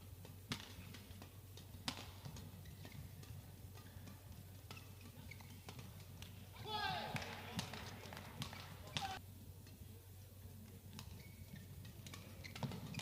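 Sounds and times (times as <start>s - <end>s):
rackets hitting shuttlecock: 0.0s - 9.8s, 10.6s - 13.0s.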